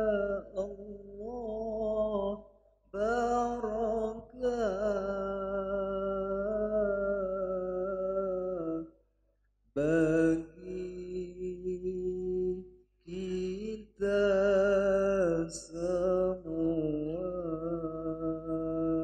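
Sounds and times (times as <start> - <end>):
man singing into a microphone: 0.0 - 8.9, 9.8 - 19.0.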